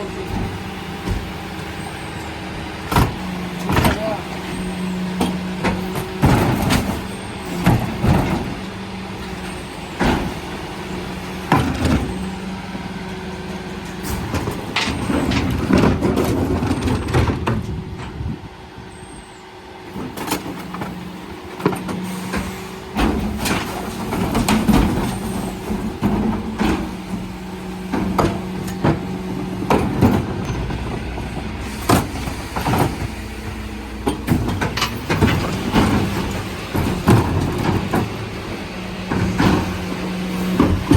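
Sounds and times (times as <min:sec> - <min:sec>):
bins knocking and banging: 0:00.0 - 0:18.3, 0:19.9 - 0:40.9.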